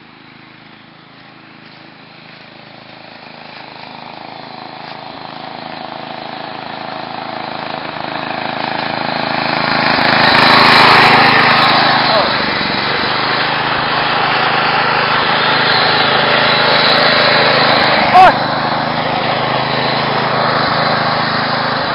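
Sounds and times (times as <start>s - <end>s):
small tractor engine running: 0.0s - 21.9s.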